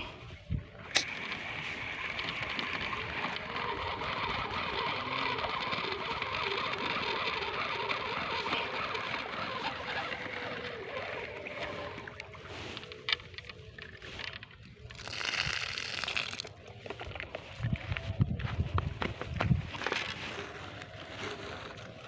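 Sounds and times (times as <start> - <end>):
motor running: 0.6 - 18.1, 19.0 - 22.0.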